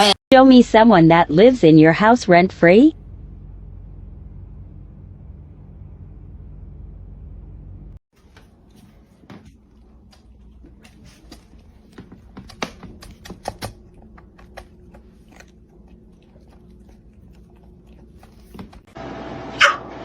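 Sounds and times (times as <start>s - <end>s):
faint hum: 0.3s - 19.8s.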